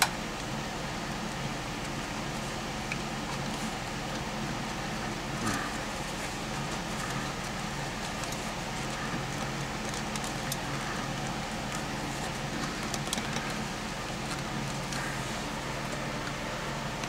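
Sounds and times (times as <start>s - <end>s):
low hum of machine running: 0.0s - 17.0s.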